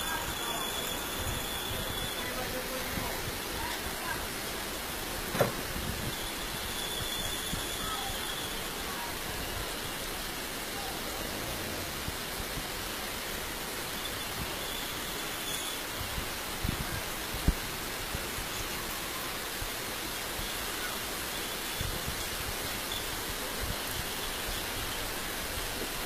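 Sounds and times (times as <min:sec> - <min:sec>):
heavy rain on street: 0:00.0 - 0:26.0.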